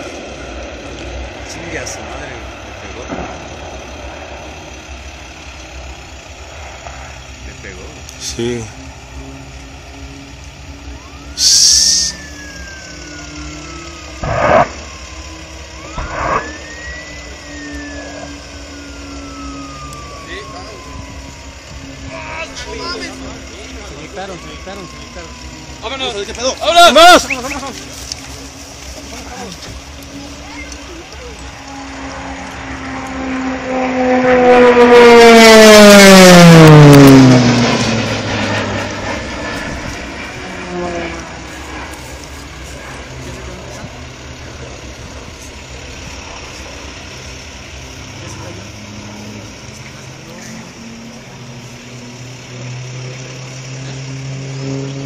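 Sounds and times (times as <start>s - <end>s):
aircraft passing low overhead: 0.0s - 55.0s
emergency siren wailing: 0.0s - 55.0s.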